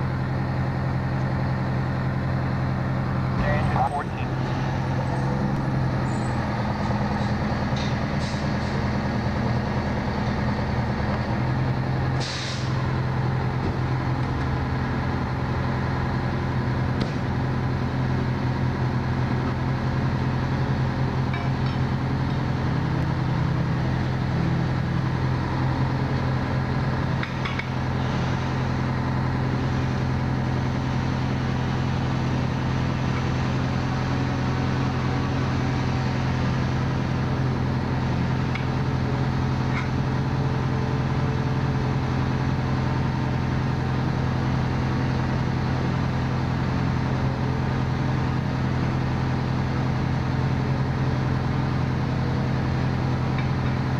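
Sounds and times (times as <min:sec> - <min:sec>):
fire engine idling: 0:00.0 - 0:53.9.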